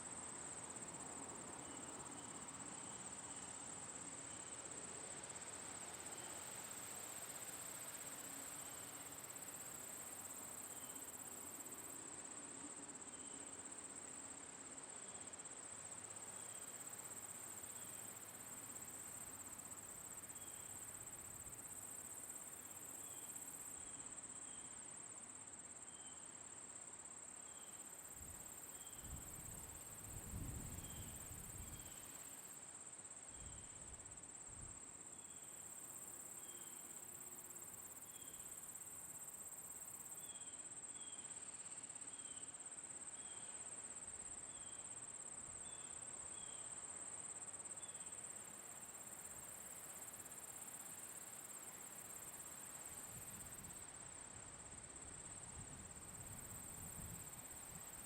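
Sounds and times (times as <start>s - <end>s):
crickets chirring: 0.1s - 32.6s, 33.2s - 58.0s.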